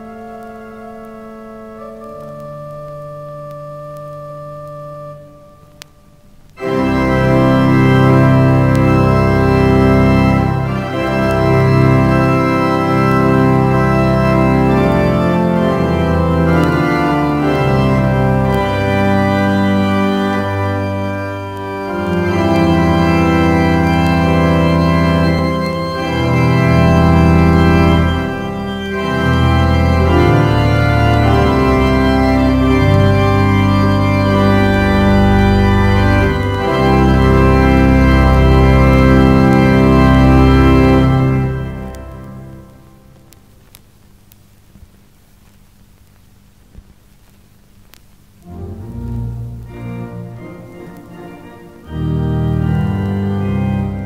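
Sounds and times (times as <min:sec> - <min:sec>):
pipe organ playing full chords: 0:00.0 - 0:43.4, 0:48.4 - 0:54.0.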